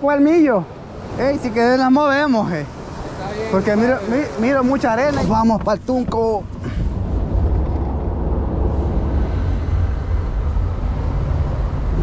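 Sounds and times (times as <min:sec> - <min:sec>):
truck road noise rumble: 0:00.0 - 0:12.0.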